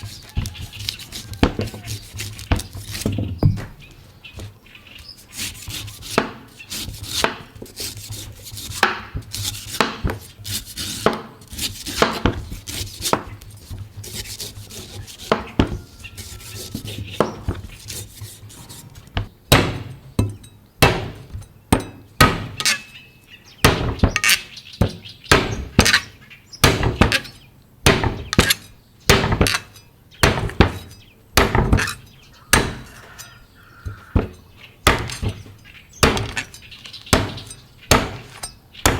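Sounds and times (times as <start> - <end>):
knife chopping into coconut: 0.0 - 3.7, 4.4 - 22.8, 23.6 - 36.5, 37.1 - 38.9.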